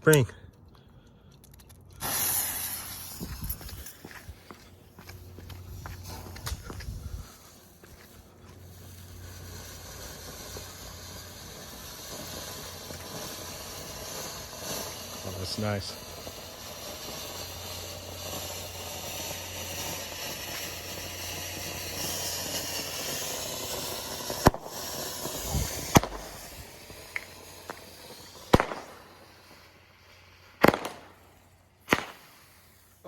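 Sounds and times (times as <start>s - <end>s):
sharp firework reports: 2.0s - 4.4s, 8.6s - 33.0s
fountain firework hissing: 2.0s - 33.0s.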